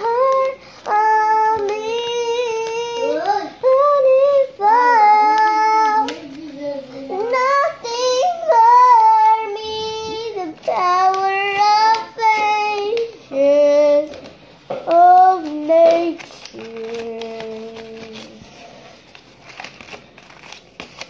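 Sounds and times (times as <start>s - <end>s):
girl singing unaccompanied: 0.0s - 18.5s.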